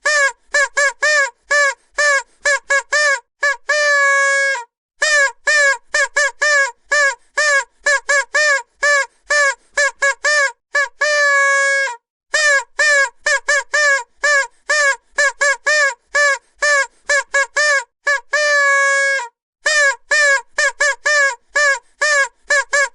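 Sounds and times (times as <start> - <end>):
vuvuzela blasts: 0.0 - 22.9.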